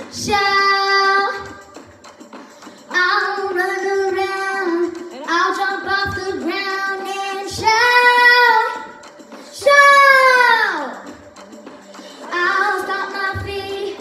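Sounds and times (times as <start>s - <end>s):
girl singing: 0.0s - 1.8s, 2.9s - 11.2s, 12.2s - 14.0s.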